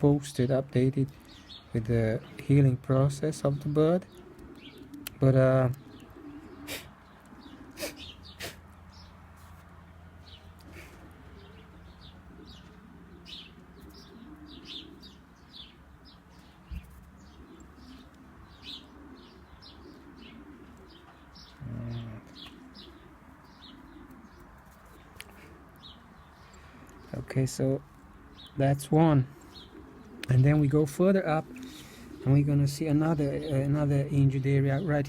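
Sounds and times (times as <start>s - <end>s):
pigeons cooing: 0.0s - 35.0s
small birds chirping: 0.0s - 35.0s.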